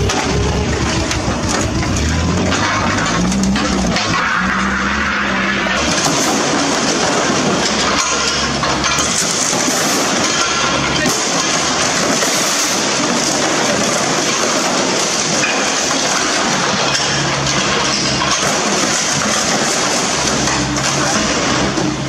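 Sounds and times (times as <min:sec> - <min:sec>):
car body crunching and crackling: 0:00.0 - 0:22.0
excavator engine humming: 0:00.0 - 0:22.0.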